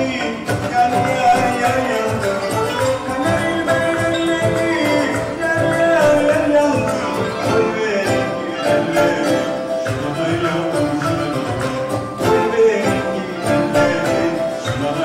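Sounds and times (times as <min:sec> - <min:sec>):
man singing: 0:00.0 - 0:15.0
percussion beat: 0:00.0 - 0:15.0.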